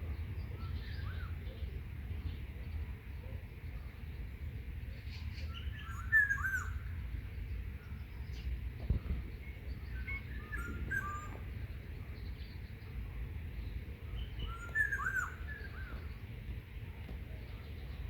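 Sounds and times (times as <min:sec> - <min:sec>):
low steady rumble: 0:00.0 - 0:18.0
small birds chirping: 0:00.0 - 0:18.0.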